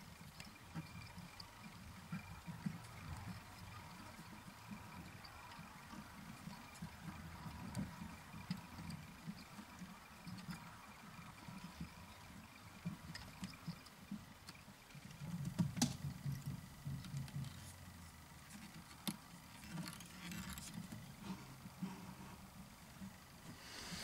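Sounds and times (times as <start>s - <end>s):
fingers working thread: 0.0s - 24.0s.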